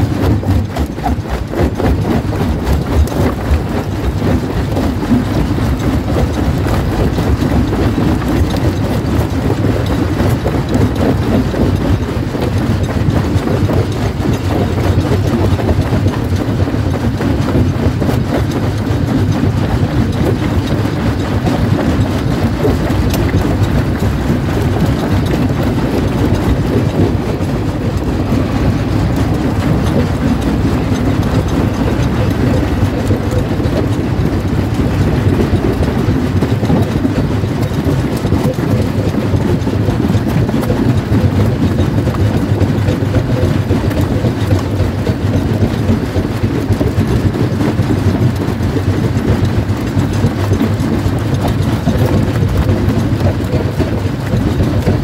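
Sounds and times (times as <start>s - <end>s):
rock crusher rumbling: 0.0s - 55.0s.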